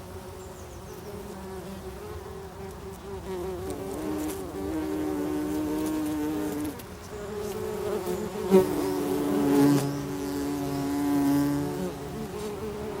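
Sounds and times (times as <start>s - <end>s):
bumblebees buzzing: 0.0s - 13.0s.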